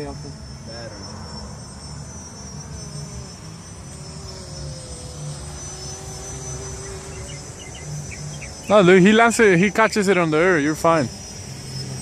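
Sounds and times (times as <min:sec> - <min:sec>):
crickets trilling: 0:00.0 - 0:12.0
model plane motor droning: 0:00.0 - 0:12.0.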